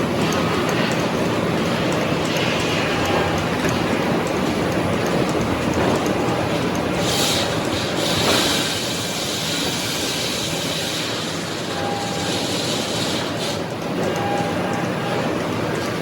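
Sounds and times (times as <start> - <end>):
sawmill machinery din: 0.0 - 16.0.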